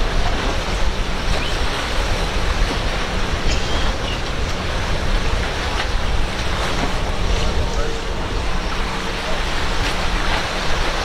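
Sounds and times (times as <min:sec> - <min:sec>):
boat engines droning: 0:00.0 - 0:11.0
waves and spray rushing: 0:00.0 - 0:11.0.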